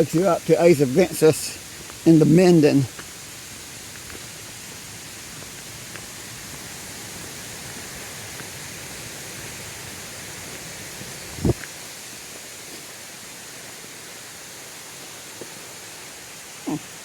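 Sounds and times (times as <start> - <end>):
waterfall rushing hiss: 0.0 - 17.0.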